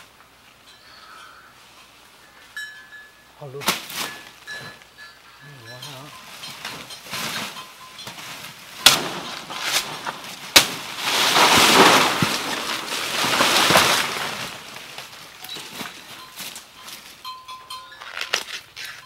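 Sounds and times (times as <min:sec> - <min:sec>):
dry leaves rustling and crackling: 0:03.5 - 0:19.0.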